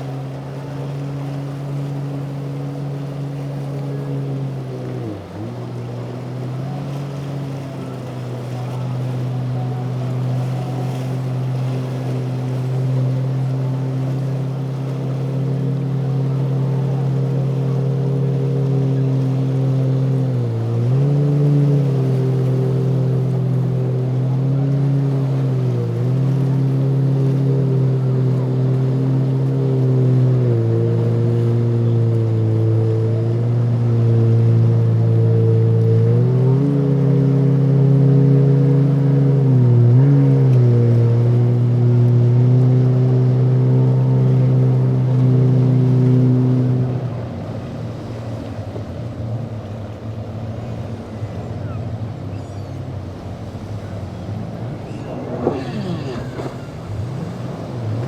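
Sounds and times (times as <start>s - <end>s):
motorboat engines droning: 0.0s - 58.0s.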